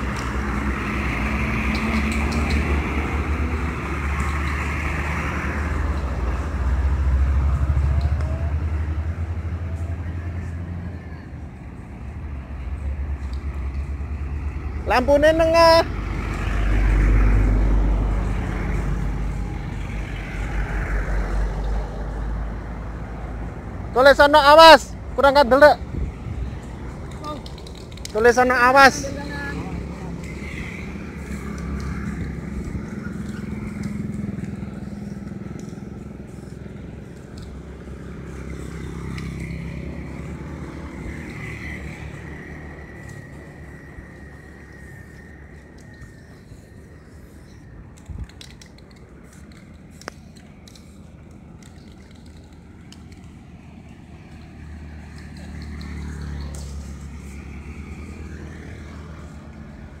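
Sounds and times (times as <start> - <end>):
vehicle passing by: 0.0 - 60.0.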